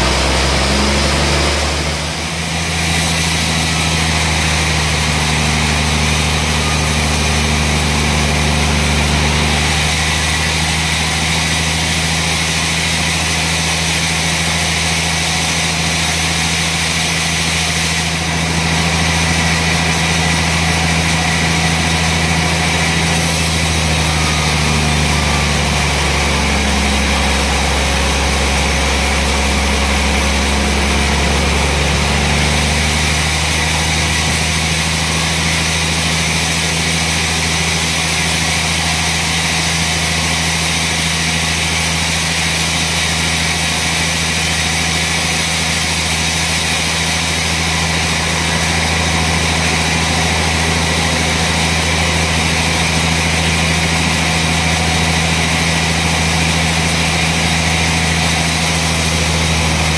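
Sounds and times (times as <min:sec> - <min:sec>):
band sawmill machine hum: 0:00.0 - 0:59.9.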